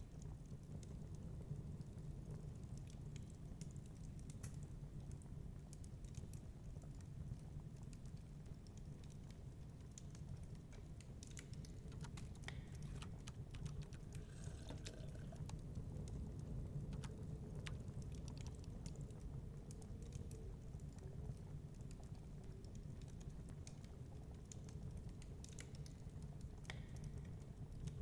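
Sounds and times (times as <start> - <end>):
fireplace crackling: 0.2 - 28.0.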